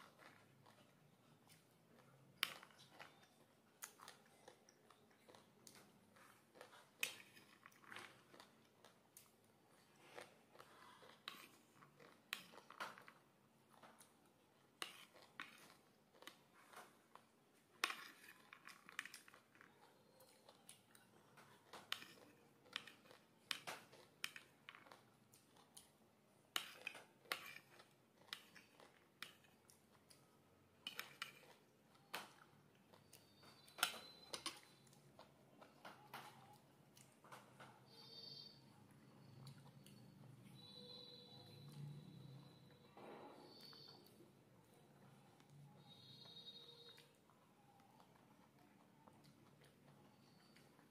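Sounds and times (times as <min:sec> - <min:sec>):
chewing and crunching: 0:00.0 - 0:38.1, 0:38.8 - 0:40.8, 0:43.5 - 0:50.9.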